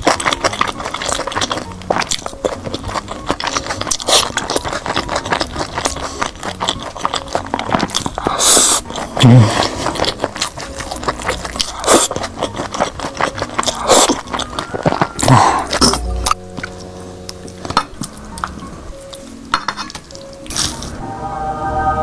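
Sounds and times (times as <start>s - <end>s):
wet chewing smacks: 0.0s - 20.9s
quiet background music: 0.0s - 22.0s.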